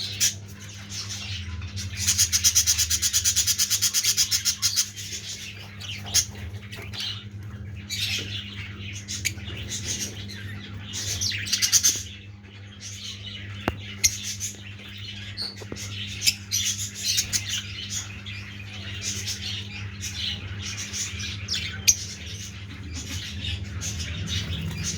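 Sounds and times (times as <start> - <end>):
lovebirds chirping and squawking: 0.0 - 24.9
steady low hum: 0.0 - 24.9.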